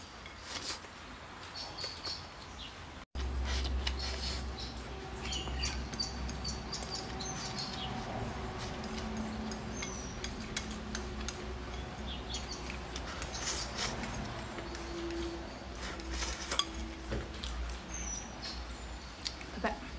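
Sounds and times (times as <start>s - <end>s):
chewing: 3.2s - 19.6s.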